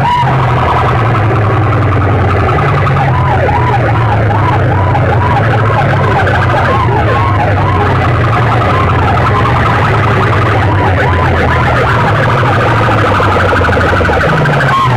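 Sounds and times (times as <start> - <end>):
steady low drone: 0.0 - 14.9
warbling siren tone from loudspeakers: 0.0 - 14.9.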